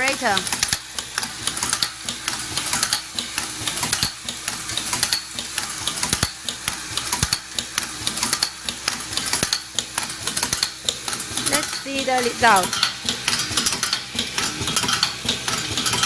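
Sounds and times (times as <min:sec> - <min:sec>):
machine metallic clicking: 0:00.4 - 0:16.0.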